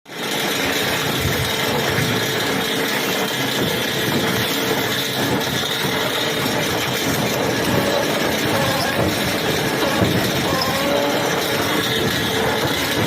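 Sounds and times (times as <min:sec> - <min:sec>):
heavy machine engine running: 0:00.1 - 0:13.0.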